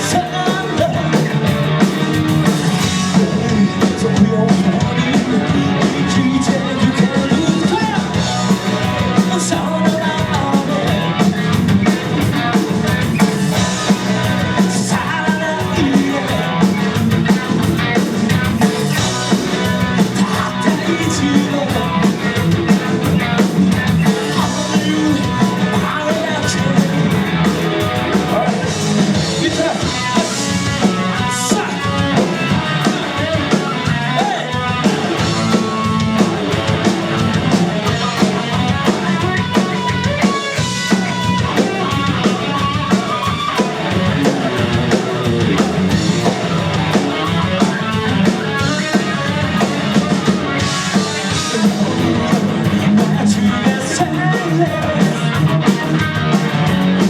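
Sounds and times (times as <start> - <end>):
person singing: 0.0 - 1.4, 3.0 - 11.4, 12.3 - 17.0, 18.6 - 27.4, 28.0 - 36.3, 37.3 - 56.6
bass guitar: 0.0 - 57.0
drum kit fast beat: 0.0 - 57.0
electric guitars: 0.0 - 57.0.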